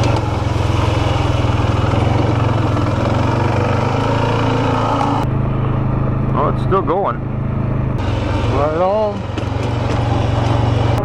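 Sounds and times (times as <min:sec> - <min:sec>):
quad engine droning: 0:00.0 - 0:11.0.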